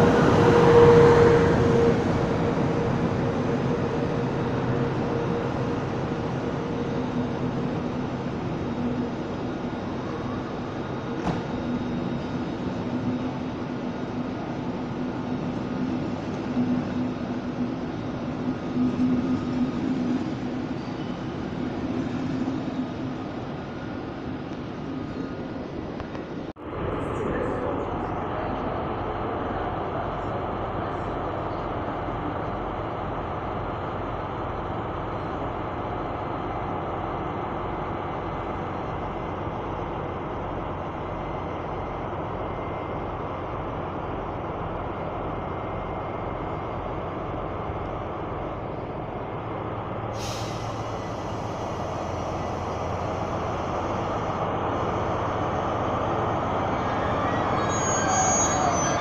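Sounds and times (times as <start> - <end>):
diesel locomotive engines rumbling: 0.0 - 59.0.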